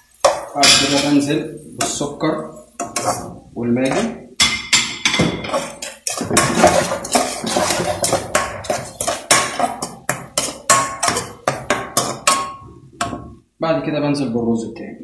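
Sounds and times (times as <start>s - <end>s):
metal tongs clanking against wok: 0.2s - 2.1s, 2.8s - 13.3s.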